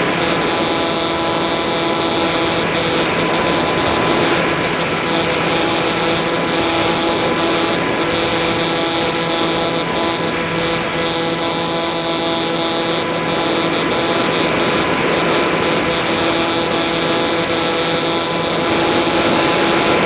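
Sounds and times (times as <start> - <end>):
model plane motor whine: 0.0 - 20.0.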